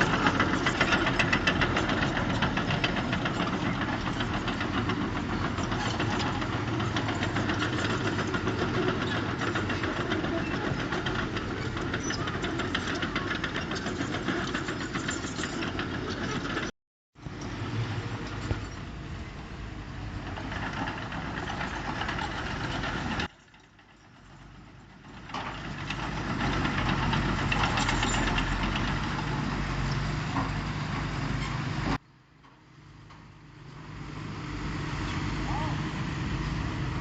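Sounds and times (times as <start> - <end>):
earthmoving machinery diesel engines: 0.0 - 37.0.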